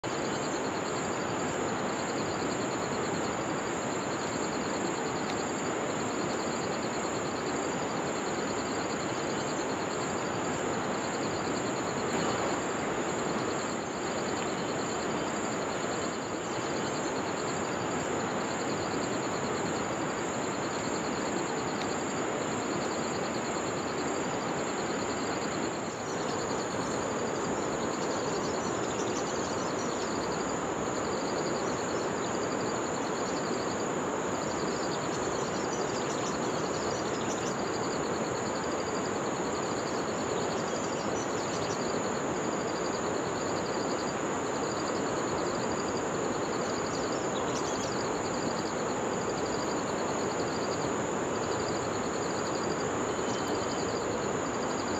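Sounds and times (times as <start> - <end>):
insect high whine: 0.0 - 54.9
insect pulsing chirr: 0.0 - 54.9.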